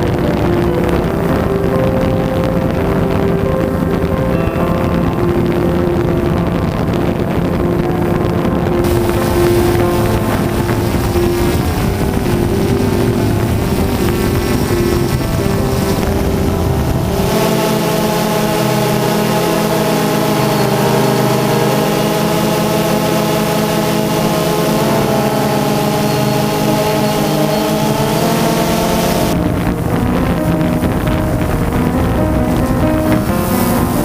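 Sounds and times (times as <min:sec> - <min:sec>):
quadcopter motors humming: 0:00.0 - 0:34.0.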